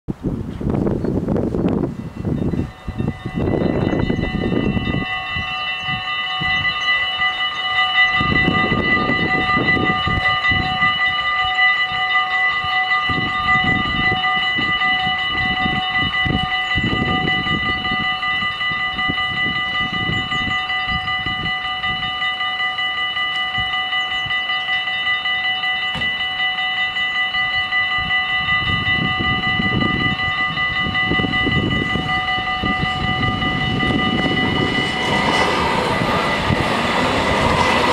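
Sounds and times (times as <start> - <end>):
level crossing bells ringing: 1.8 - 37.9.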